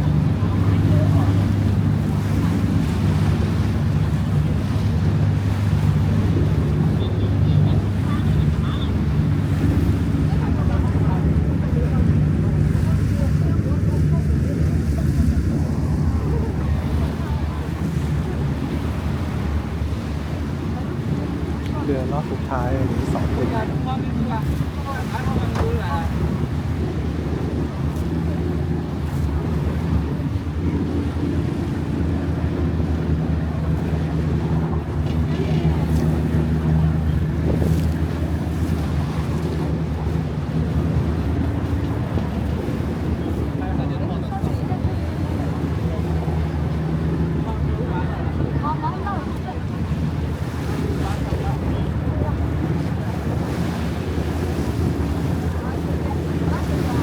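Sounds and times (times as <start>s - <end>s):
boat engine droning: 0.0s - 57.0s
wind rumbling on microphone: 0.0s - 57.0s.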